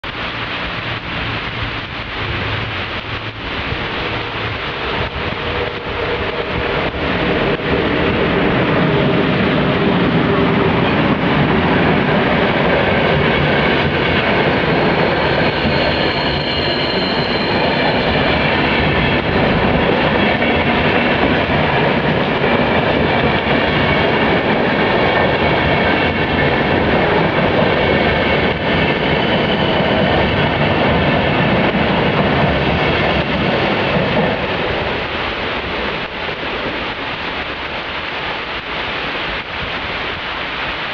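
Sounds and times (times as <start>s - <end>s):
train wheels rushing on rail: 0.0s - 40.9s.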